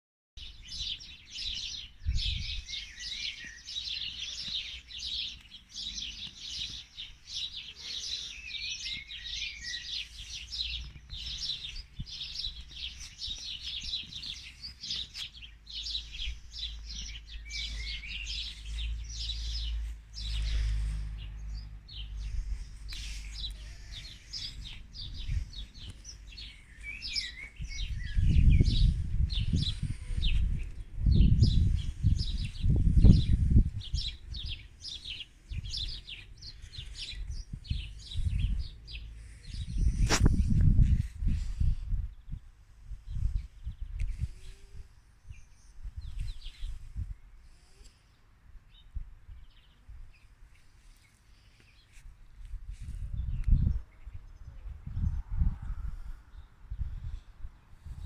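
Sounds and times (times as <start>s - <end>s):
small birds chirping: 0.4s - 58.0s.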